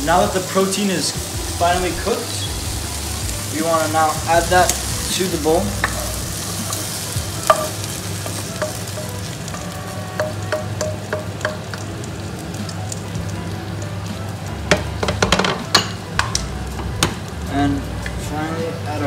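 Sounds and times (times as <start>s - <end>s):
sizzling pan: 0.0s - 19.0s.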